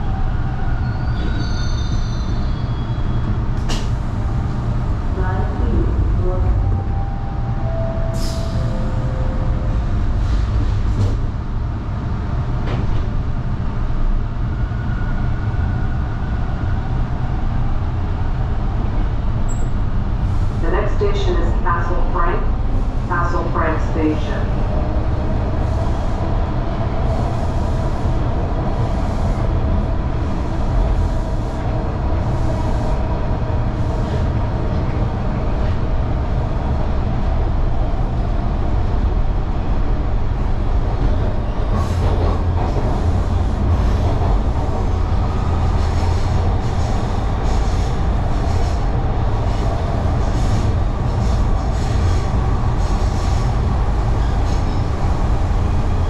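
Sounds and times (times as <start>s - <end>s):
subway wheels rumbling on track: 0.0s - 56.0s.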